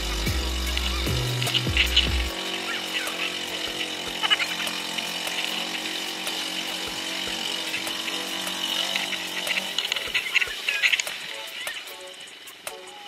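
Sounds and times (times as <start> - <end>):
motor running: 0.0 - 13.0.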